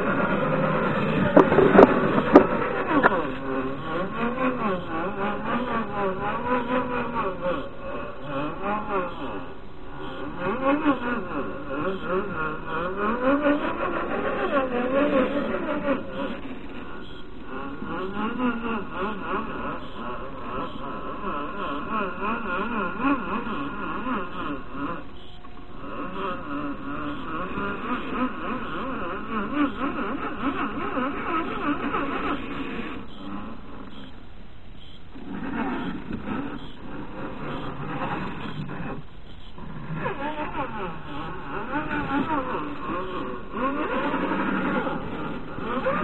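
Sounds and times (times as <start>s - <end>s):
small electric motor whining: 0.0s - 46.0s.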